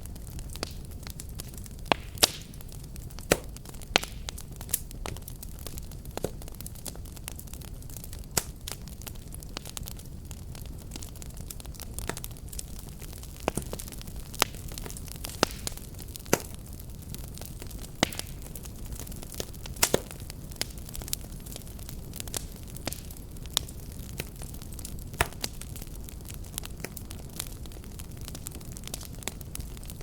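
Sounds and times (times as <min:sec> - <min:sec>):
fireplace fire crackling: 0:00.0 - 0:30.0.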